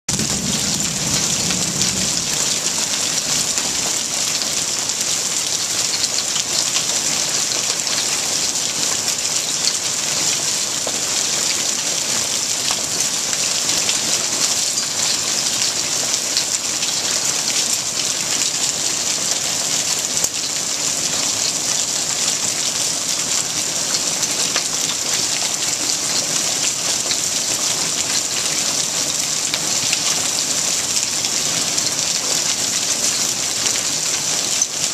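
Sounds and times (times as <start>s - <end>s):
hailstones pelting concrete and water: 0.1s - 34.9s.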